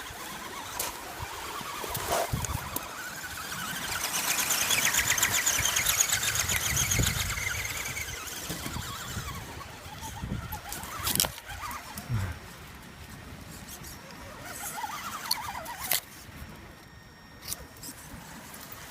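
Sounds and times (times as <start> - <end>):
toy car electric motor whining: 0.0 - 18.9.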